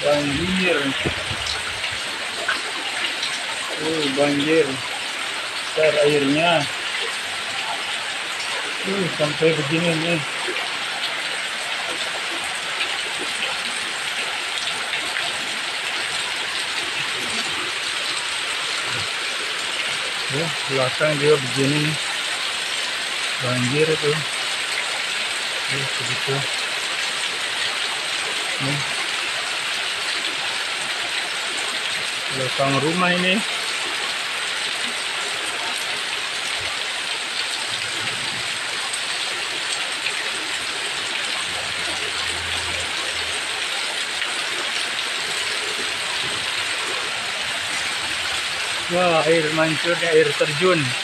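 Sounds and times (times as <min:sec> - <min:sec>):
floodwater rushing: 0:00.0 - 0:51.0
heavy rain falling: 0:00.0 - 0:51.0.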